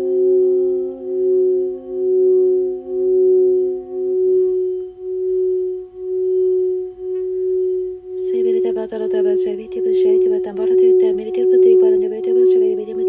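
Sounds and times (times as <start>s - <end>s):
lower singing bowl tone: 0.0s - 13.0s
singing bowl ringing: 0.0s - 13.0s.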